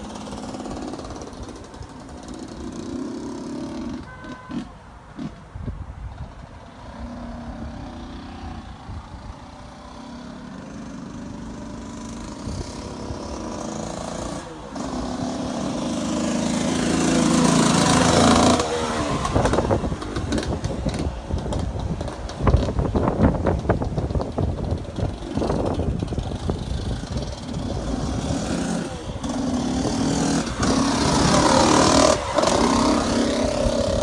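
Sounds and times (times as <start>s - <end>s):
two-stroke engine revving: 0.0s - 5.4s, 6.8s - 34.0s.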